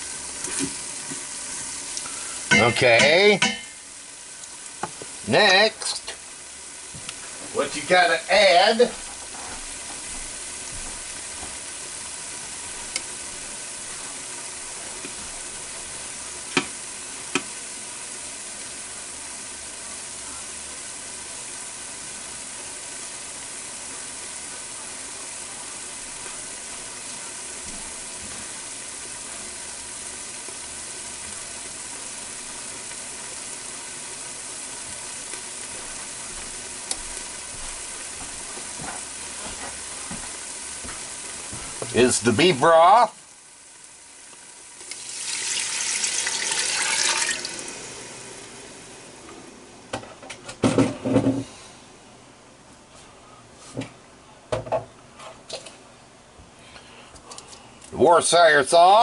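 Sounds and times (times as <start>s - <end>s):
meat sizzling in oil: 0.0s - 49.6s.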